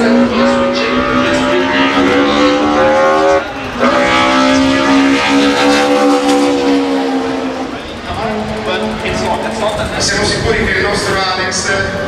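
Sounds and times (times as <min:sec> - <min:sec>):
race car engine revving high: 0:00.0 - 0:12.0.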